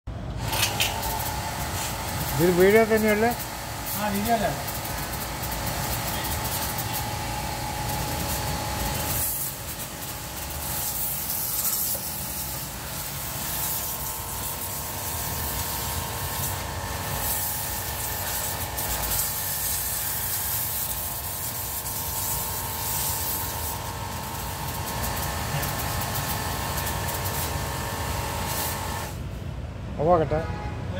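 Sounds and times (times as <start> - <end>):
pressure washer motor whine: 0.4 - 29.2
water jet spraying onto concrete: 0.4 - 29.2.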